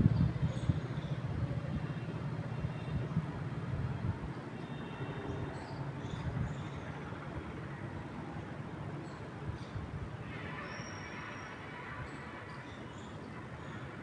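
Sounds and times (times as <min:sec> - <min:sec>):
wind in trees: 0:00.0 - 0:14.0.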